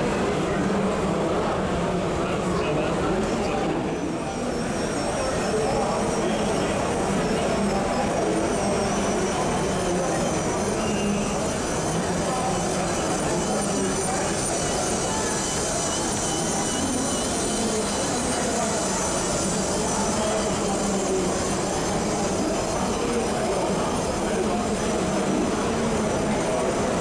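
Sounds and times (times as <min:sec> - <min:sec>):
many voices talking: 0:00.0 - 0:27.0
toy train running on track: 0:03.8 - 0:27.0.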